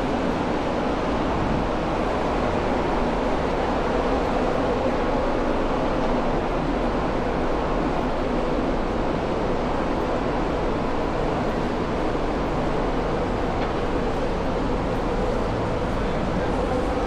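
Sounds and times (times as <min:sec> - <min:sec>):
city street rumble and hum: 0:00.0 - 0:17.0.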